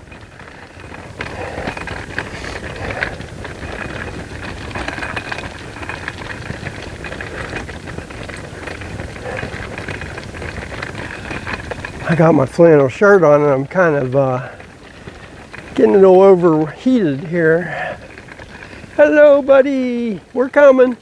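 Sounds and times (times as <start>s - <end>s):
footsteps: 0.0s - 21.0s
wagon wheels rattling: 0.0s - 21.0s.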